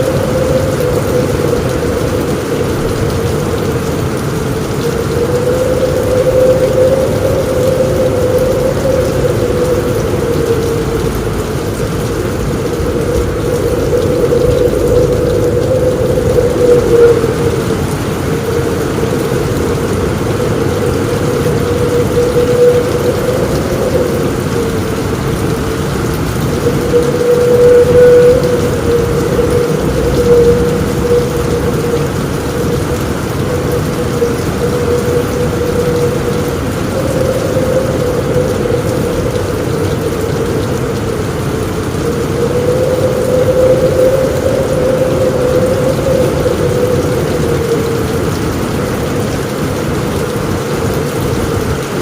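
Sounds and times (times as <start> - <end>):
deep continuous rumble: 0.0 - 52.0
heavy rain on a roof: 0.0 - 52.0
strong wind moaning: 0.0 - 52.0.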